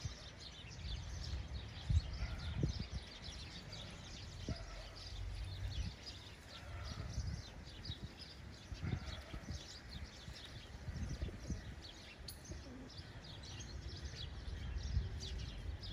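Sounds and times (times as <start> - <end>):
birds chirping rapidly: 0.0 - 15.9.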